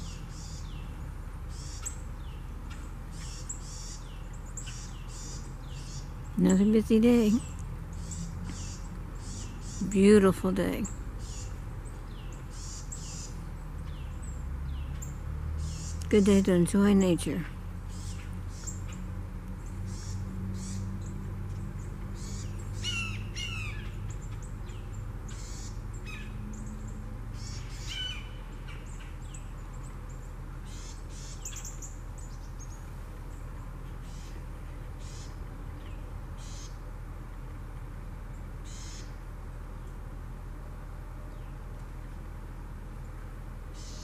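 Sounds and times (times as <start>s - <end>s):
birds chirping: 0.0s - 37.6s, 38.2s - 40.2s, 42.9s - 44.0s.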